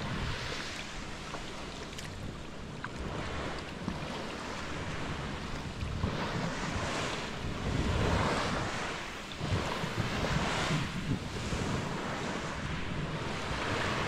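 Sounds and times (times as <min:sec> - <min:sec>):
water splashing around a kayak: 0:00.0 - 0:14.0
wind buffeting microphone: 0:00.0 - 0:14.0.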